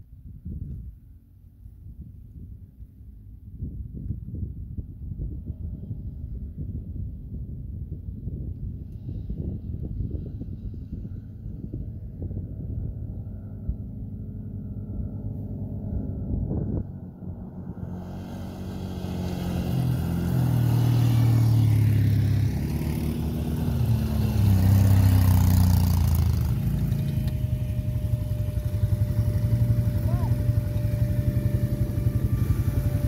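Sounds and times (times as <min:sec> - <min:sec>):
quad bike engines passing: 0:04.3 - 0:33.0.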